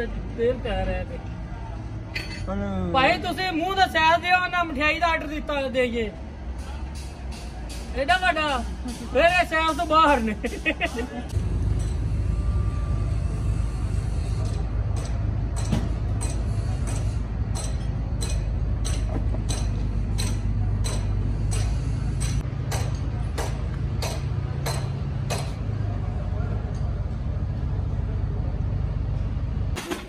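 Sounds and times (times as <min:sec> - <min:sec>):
dozer diesel engine rumbling: 0:00.0 - 0:30.0.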